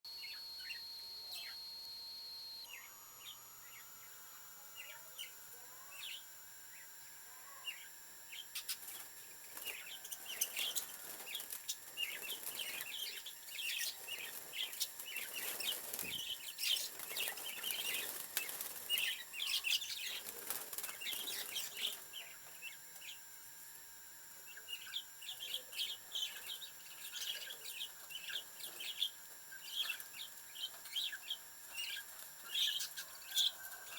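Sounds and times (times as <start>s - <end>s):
parakeets chirping and chattering: 2.7s - 23.3s, 24.5s - 33.9s.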